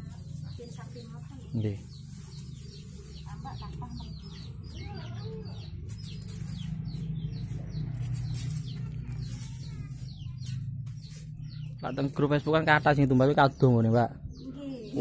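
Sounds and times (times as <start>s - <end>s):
chickens clucking: 0.2s - 12.3s.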